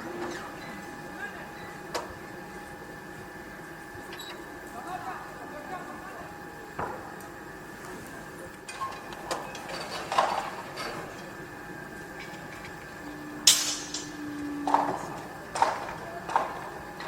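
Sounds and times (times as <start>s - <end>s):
background hum: 0.0s - 17.0s
low steady machine tone: 0.0s - 17.0s.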